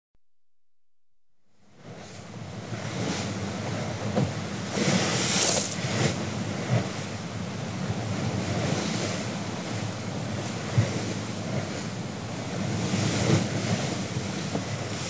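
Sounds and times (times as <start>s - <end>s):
bow wave rushing and splashing: 1.8s - 15.0s.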